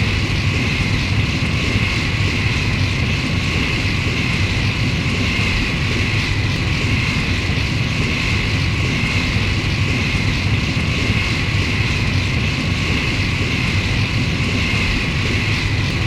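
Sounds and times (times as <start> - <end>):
low rumble: 0.0 - 16.0
starship engine drone: 0.0 - 16.0.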